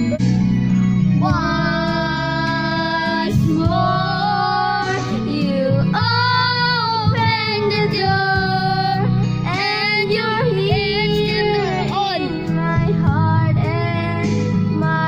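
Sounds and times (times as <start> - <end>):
karaoke backing track: 0.0 - 15.0
girl singing into microphone: 1.2 - 15.0.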